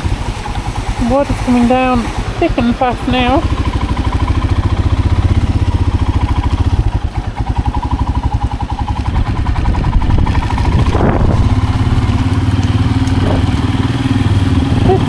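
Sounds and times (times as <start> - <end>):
motorcycle engine pulsing: 0.0 - 15.0.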